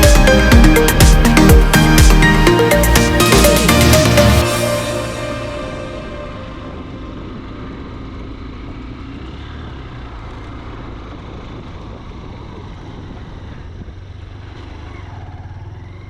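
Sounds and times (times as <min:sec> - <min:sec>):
motorcycle running: 0:00.0 - 0:16.0.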